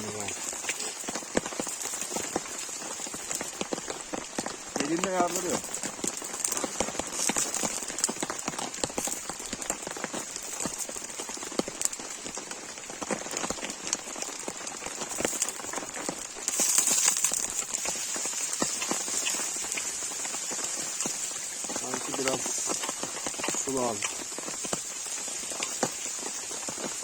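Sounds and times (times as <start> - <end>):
heavy rain on awning: 0.0 - 27.0.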